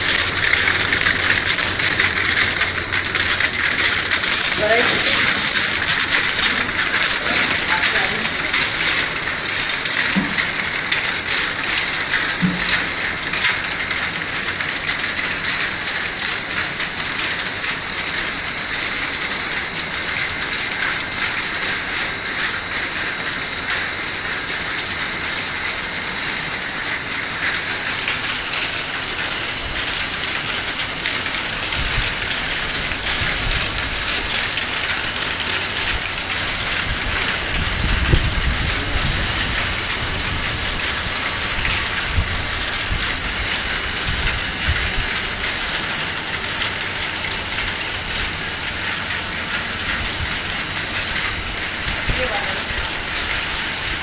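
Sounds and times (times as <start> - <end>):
rapid mechanical clicking: 0.0 - 54.0.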